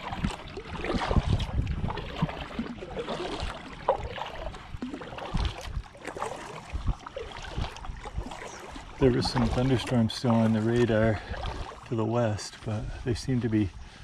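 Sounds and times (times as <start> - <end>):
paddle strokes through water: 0.0 - 14.0.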